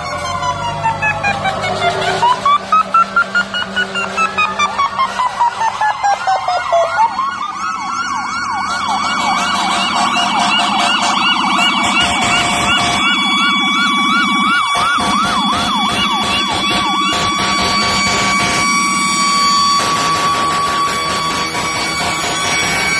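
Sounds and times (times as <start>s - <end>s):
siren wail and yelp: 0.0s - 22.9s
steady high siren tone: 0.0s - 22.9s.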